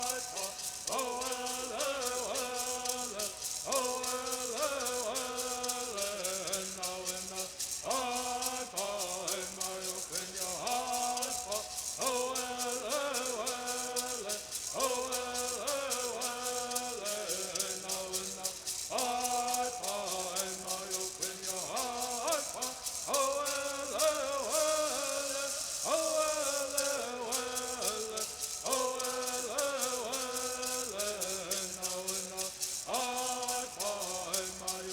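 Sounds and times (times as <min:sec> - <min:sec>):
gourd rattles shaken: 0:00.0 - 0:34.9
voices singing together: 0:00.0 - 0:34.9.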